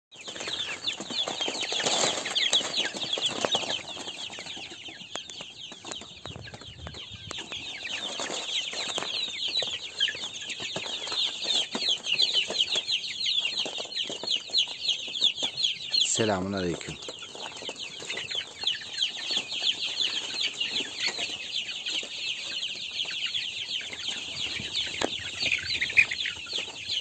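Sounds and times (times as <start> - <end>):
chicks peeping: 0.1 - 27.0.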